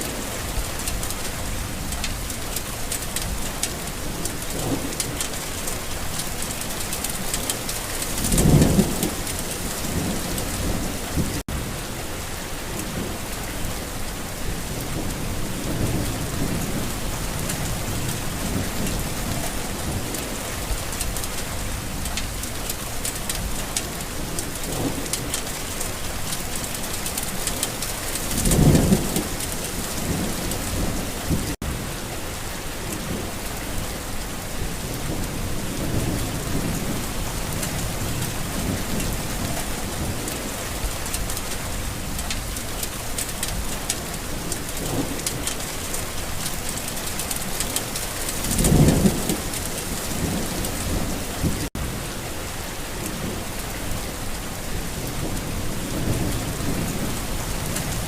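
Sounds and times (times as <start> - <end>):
thunder rumbles: 0.0 - 11.8, 14.3 - 32.0, 32.8 - 52.2, 54.2 - 58.0
steady rain falling: 0.0 - 58.0.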